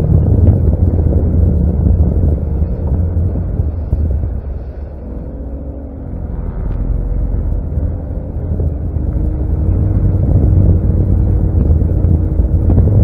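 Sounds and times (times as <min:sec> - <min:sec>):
boat engine droning: 0:00.0 - 0:13.0
wind on microphone: 0:00.0 - 0:13.0.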